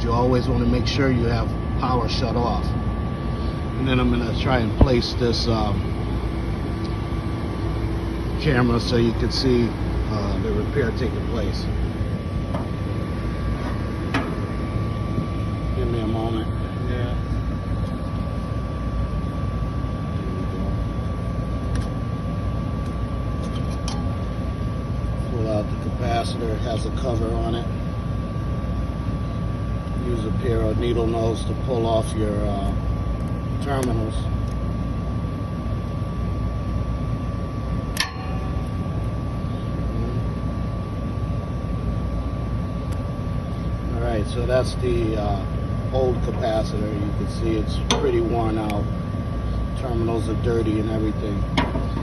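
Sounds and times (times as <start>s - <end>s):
low rumble and hiss: 0.0s - 52.0s
rooftop machinery humming: 0.0s - 52.0s
thin steady whine: 0.0s - 52.0s.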